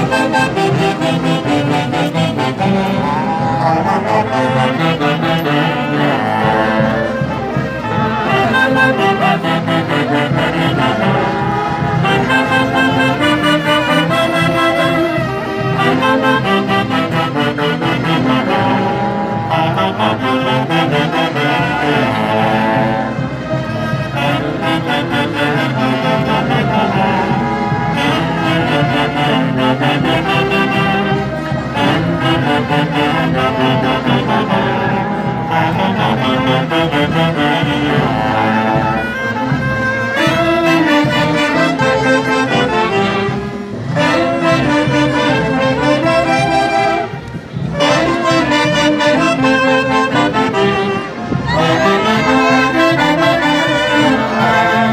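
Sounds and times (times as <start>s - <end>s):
band with wind instruments: 0.0s - 54.9s.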